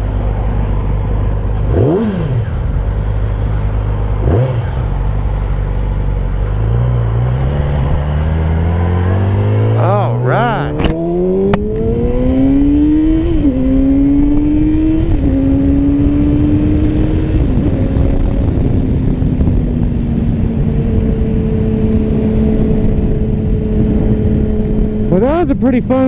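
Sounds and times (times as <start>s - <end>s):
sport bike engine pulling hard: 0.0s - 26.0s
wind rushing over microphone: 0.0s - 26.0s.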